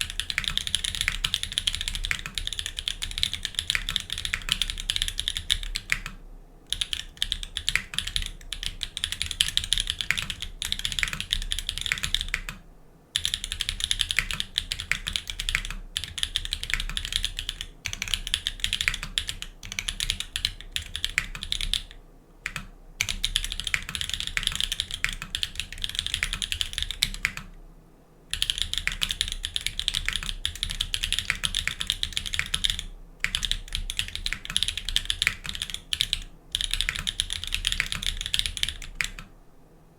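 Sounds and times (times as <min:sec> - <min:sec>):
mechanical keyboard typing: 0:00.0 - 0:12.6, 0:13.2 - 0:27.6, 0:28.3 - 0:39.3.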